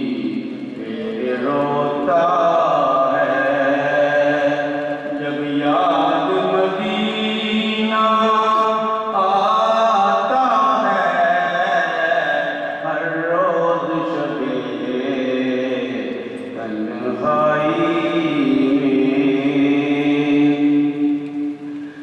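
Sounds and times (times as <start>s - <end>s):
man chanting into microphone: 0.0s - 21.2s.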